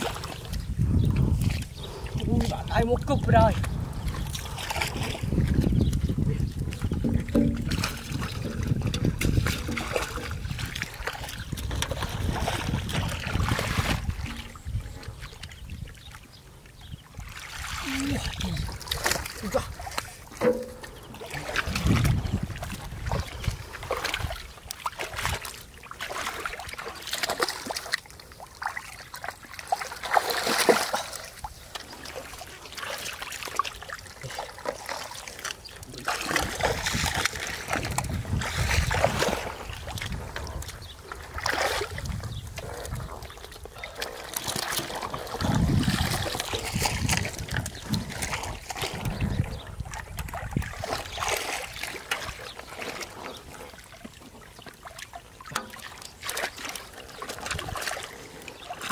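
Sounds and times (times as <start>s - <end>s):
muddy water splashing: 0.0s - 58.9s.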